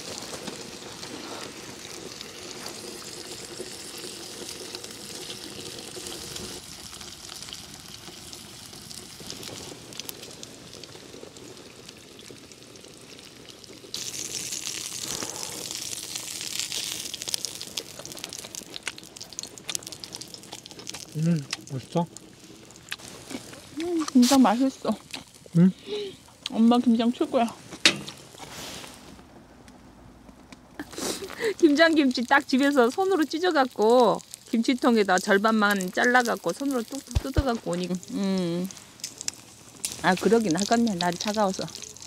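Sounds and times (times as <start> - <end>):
food sizzling and bubbling: 0.0 - 29.4, 30.8 - 42.0
wood stove crackles: 0.0 - 42.0.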